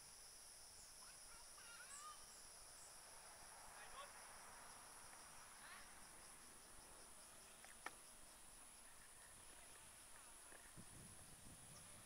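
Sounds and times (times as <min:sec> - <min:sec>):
insect high buzz: 0:00.0 - 0:12.0.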